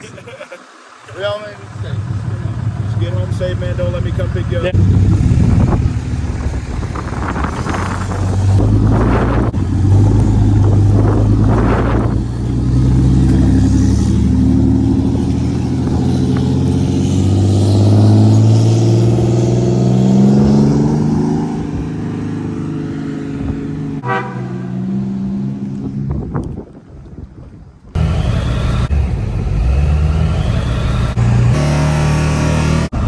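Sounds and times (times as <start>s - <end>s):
vehicle engine accelerating: 0.0s - 26.8s, 27.9s - 33.0s.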